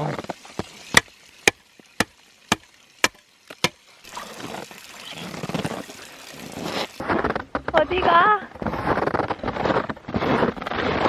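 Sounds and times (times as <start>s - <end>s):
water pouring and running: 0.0s - 9.2s.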